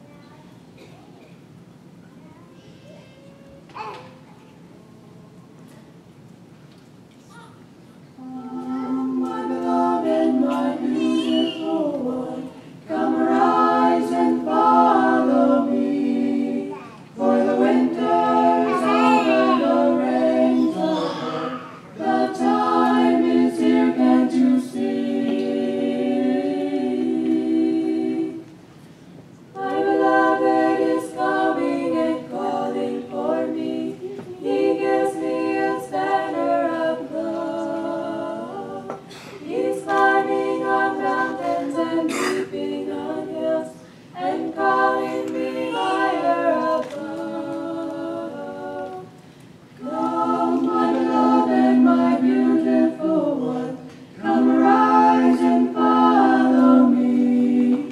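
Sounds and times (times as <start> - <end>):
group singing a cappella: 8.2 - 57.9.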